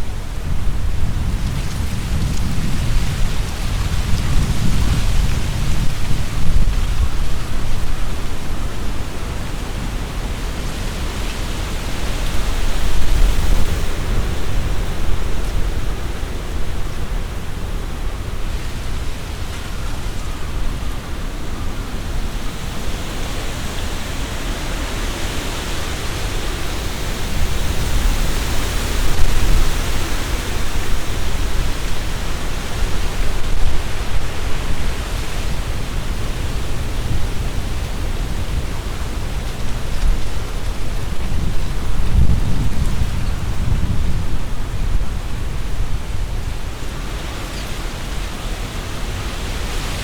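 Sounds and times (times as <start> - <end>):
leaves rustling in wind: 0.0 - 50.0
low wind rumble: 0.0 - 50.0.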